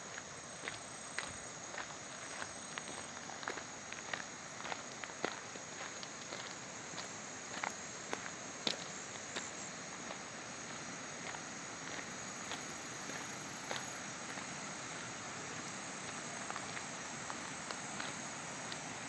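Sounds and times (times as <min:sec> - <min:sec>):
light footsteps outdoors: 0:00.0 - 0:19.0
steady high hiss: 0:00.0 - 0:19.0.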